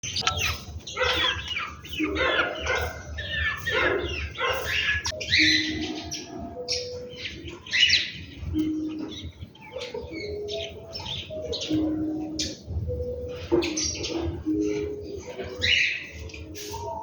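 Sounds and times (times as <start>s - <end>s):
birds chirping: 0.0s - 17.0s
low held bird notes: 0.0s - 17.0s.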